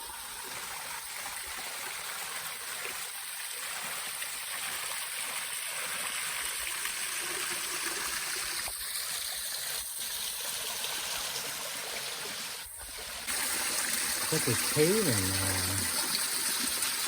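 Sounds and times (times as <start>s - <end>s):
water rushing in a creek: 0.0s - 17.0s.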